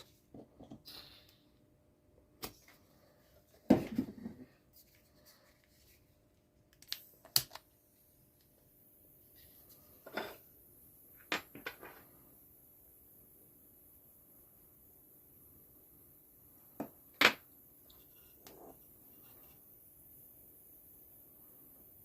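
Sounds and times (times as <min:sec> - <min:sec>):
faint high gas hiss: 0:00.0 - 0:06.2, 0:06.8 - 0:22.0.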